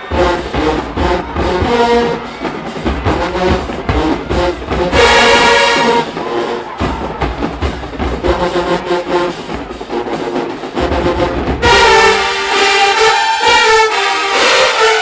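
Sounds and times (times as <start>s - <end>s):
brass section: 0.0s - 15.0s
marching band playing: 0.0s - 15.0s
percussion hits: 0.0s - 15.0s.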